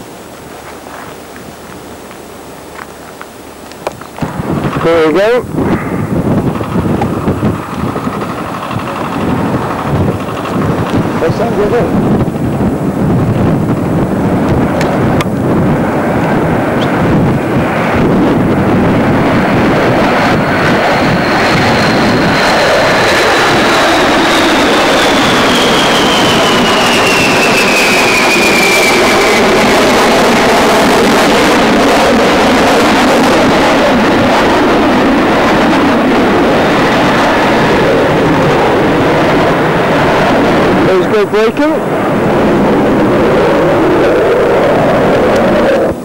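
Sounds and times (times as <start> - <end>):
high whine falling in pitch: 0.0 - 46.0
jet aircraft rushing noise: 0.0 - 46.0
wind buffeting microphone: 0.0 - 46.0.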